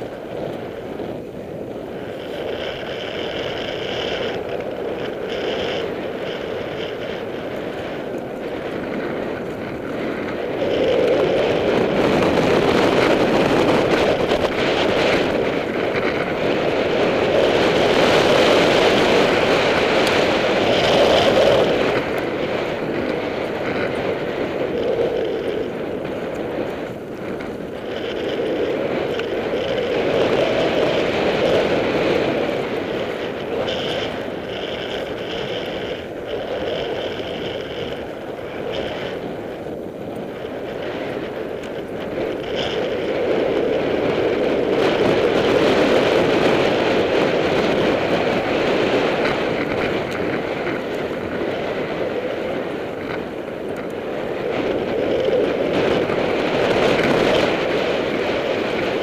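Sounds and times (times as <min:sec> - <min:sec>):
bike tyres on loose dirt: 0:00.0 - 0:59.0
wind rushing over microphone: 0:00.0 - 0:59.0.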